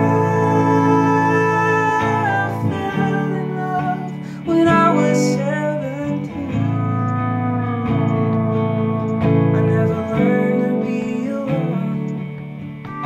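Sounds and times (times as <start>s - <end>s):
electric guitar strummed chords: 0.0s - 13.0s
sliding steel guitar notes: 0.0s - 13.0s.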